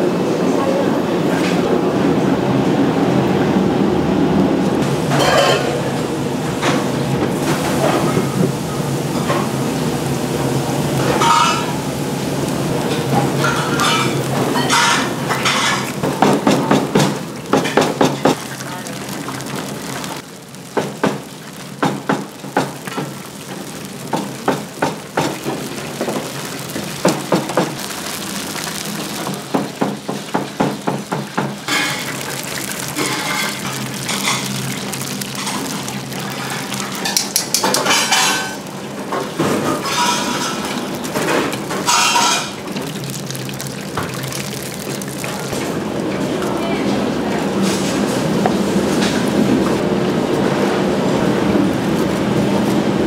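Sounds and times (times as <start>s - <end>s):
oil frying in deep fryer: 2.1s - 53.0s.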